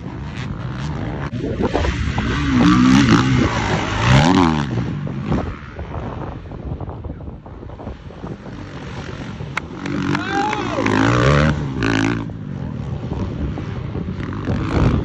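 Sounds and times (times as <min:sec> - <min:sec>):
motocross bikes revving past: 0:00.0 - 0:07.0, 0:07.7 - 0:15.0
wind on microphone: 0:00.0 - 0:15.0.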